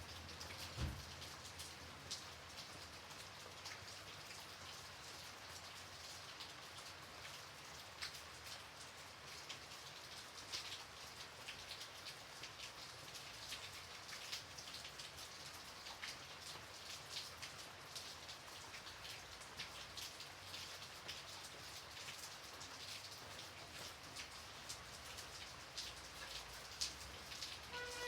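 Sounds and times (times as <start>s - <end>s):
gentle rain hiss: 0.0s - 28.0s
raindrops ticking on a surface: 0.0s - 28.0s.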